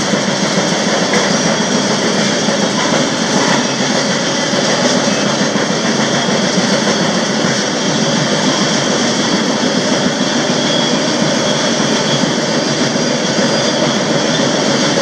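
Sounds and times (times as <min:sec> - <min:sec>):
freight train wheels roaring on rails: 0:00.0 - 0:15.0.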